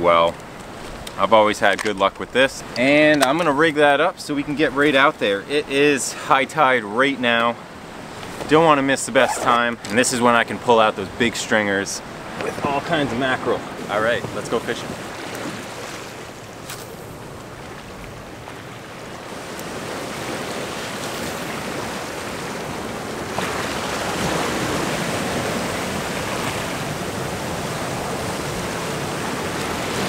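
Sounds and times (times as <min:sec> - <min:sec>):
ocean surf on rocks: 0:00.0 - 0:30.0.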